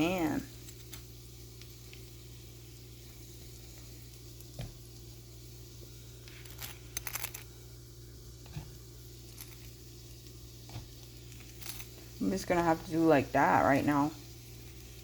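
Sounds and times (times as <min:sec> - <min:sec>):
food sizzling in frying pan: 0:00.0 - 0:15.0
steady low hum: 0:00.0 - 0:15.0.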